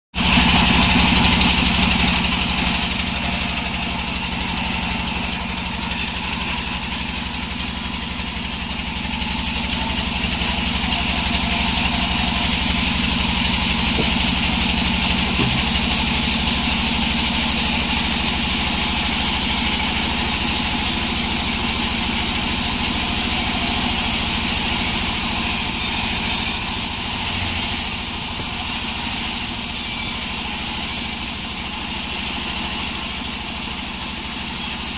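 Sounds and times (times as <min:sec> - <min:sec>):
sawmill engine running: 0:00.2 - 0:34.9.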